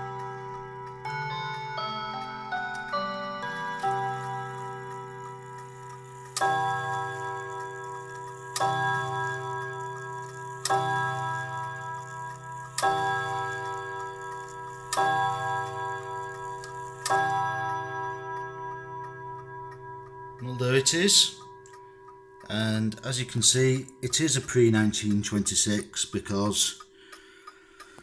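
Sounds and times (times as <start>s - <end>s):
clock striking on gong: 0.0s - 25.1s.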